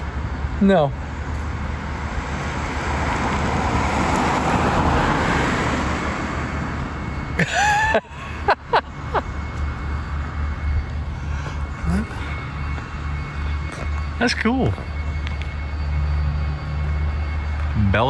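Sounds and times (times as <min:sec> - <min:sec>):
car passing: 0:00.0 - 0:18.0.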